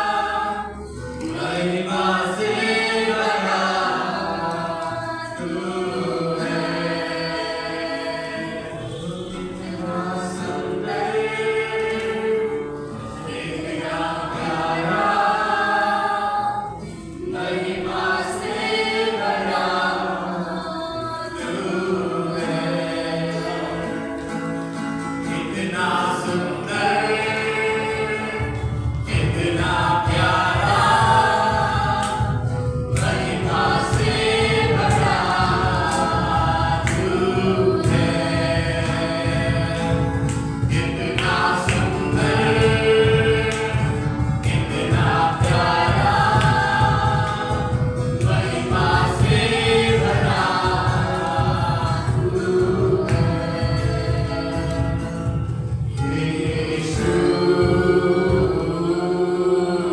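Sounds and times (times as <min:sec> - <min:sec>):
choir singing: 0:00.0 - 0:59.9
low rhythmic accompaniment: 0:00.0 - 0:59.9.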